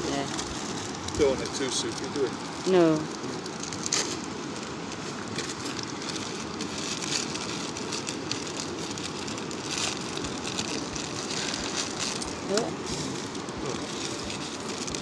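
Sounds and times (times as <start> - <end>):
steady rushing of stove: 0.0 - 15.0
twigs crackling and popping: 0.0 - 15.0.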